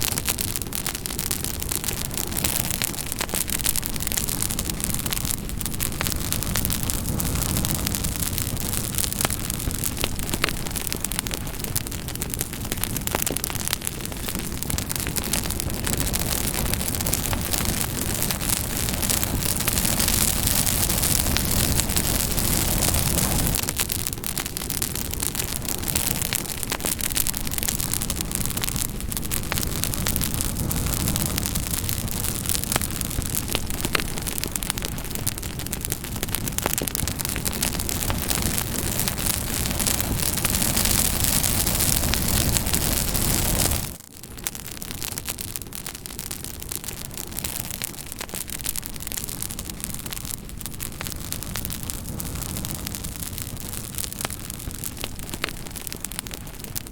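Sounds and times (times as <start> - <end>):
campfire rushing: 0.0 - 56.9
wood crackling and popping: 0.0 - 56.9.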